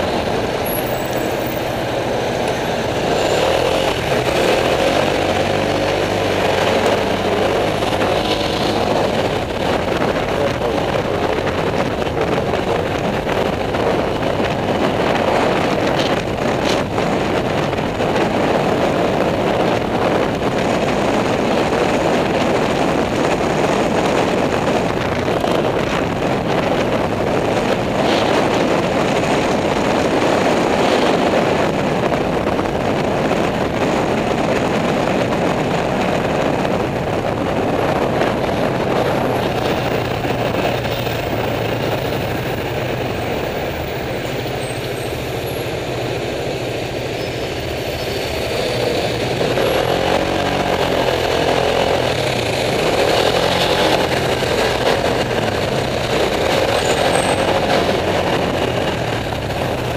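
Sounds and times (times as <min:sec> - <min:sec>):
scooter engine running: 0:00.0 - 0:59.9
wind and road noise: 0:00.0 - 0:59.9.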